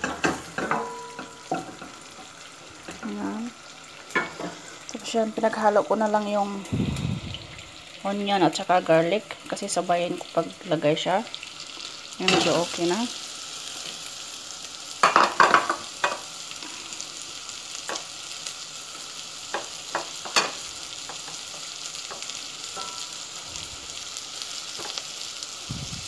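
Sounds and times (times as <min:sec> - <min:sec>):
onion sizzling in butter: 0:00.0 - 0:26.0.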